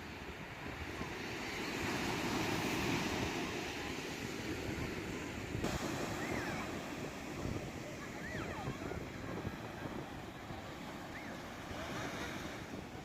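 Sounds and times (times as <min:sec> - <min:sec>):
sea waves washing on shore: 0:00.0 - 0:13.0
wind buffeting microphone: 0:00.0 - 0:13.0.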